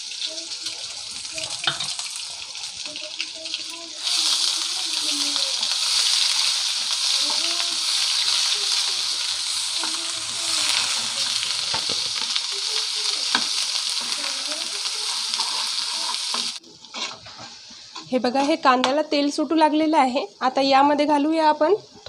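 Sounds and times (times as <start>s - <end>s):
paste sizzling in hot oil: 0.0s - 18.4s.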